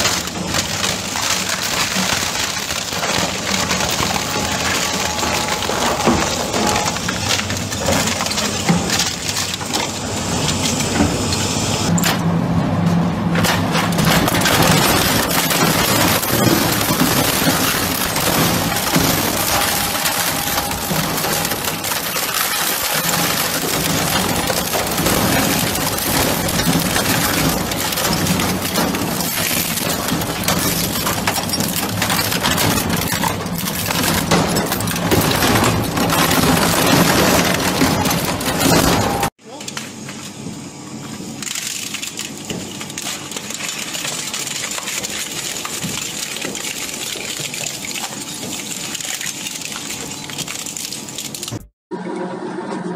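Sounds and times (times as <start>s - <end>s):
shredder crunching metal and plastic: 0.0s - 12.3s, 13.2s - 40.4s, 41.2s - 51.7s.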